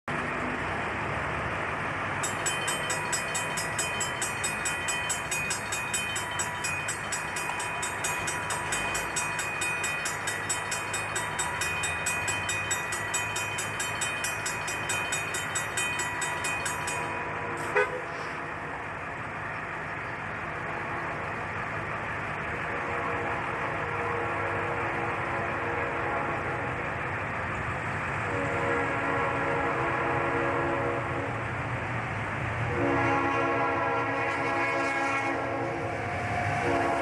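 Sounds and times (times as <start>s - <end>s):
railroad crossing bell ringing: 0.1s - 37.0s
train rumbling: 0.1s - 37.0s.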